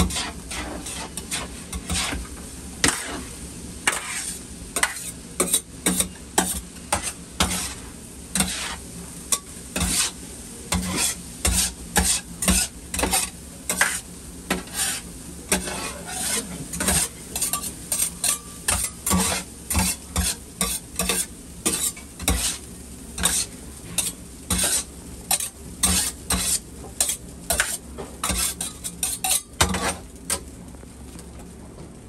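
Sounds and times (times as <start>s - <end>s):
metal spatulas scraping griddle: 0.0s - 30.4s
food sizzling: 0.0s - 32.0s.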